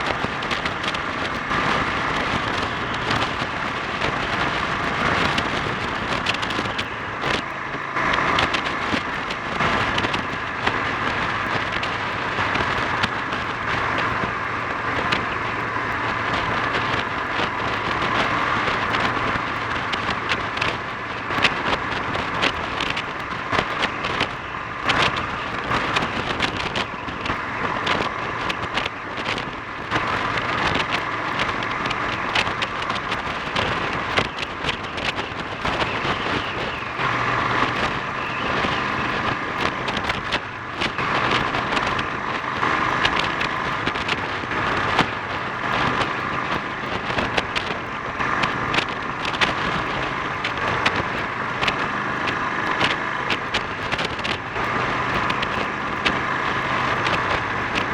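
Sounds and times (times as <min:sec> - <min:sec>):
motorcycle engine running: 0:00.0 - 0:57.9
short sharp crackles: 0:00.0 - 0:57.9.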